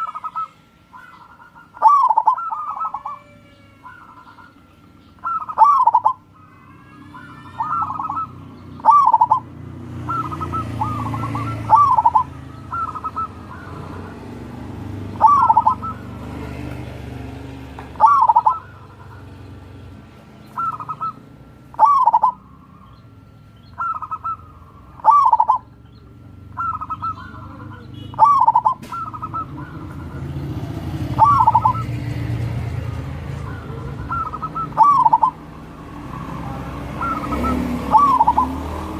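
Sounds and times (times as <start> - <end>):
dove cooing: 0.0 - 19.6, 20.4 - 38.9.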